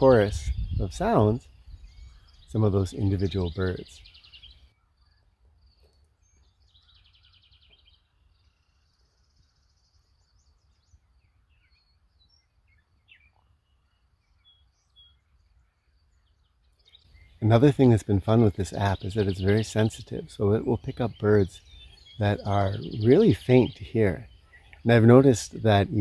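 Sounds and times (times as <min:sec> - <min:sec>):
bird chirps and calls: 0:00.0 - 0:26.0
songbirds trilling: 0:00.0 - 0:26.0.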